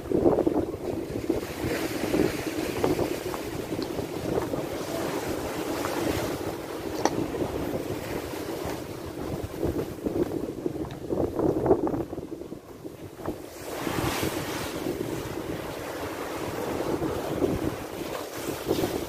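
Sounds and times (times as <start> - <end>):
sea waves breaking on rocks: 0.0 - 19.0
wind buffeting microphone: 0.0 - 19.0.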